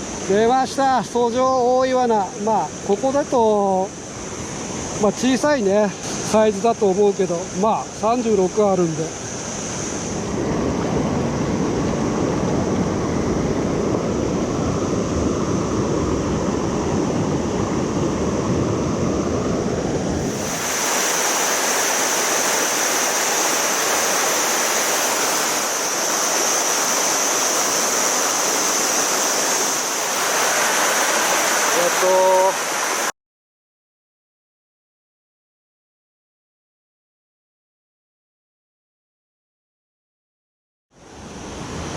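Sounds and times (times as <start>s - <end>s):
stream water rushing: 0.0s - 33.1s, 41.0s - 41.9s.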